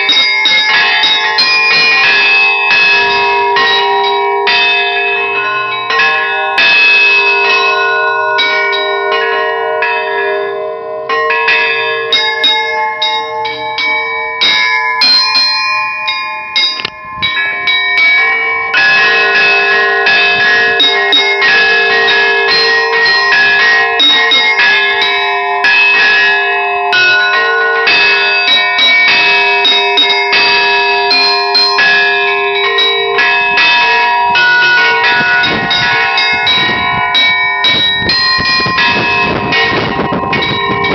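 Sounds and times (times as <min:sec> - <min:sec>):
high bells struck quickly: 0:00.0 - 0:40.9
low bells ringing: 0:00.0 - 0:40.9.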